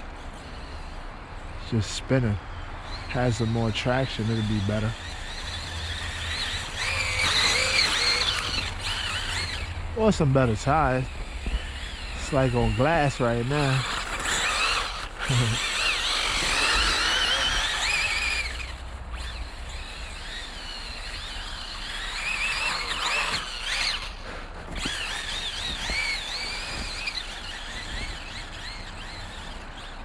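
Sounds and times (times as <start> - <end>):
tyres spinning on snow: 0.0 - 30.0
electric motor whining: 1.9 - 30.0.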